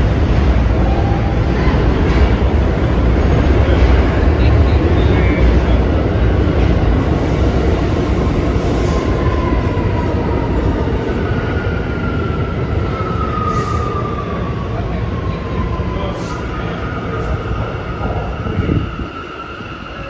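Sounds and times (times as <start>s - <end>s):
subway train wheels rumbling on rail: 0.0s - 20.0s.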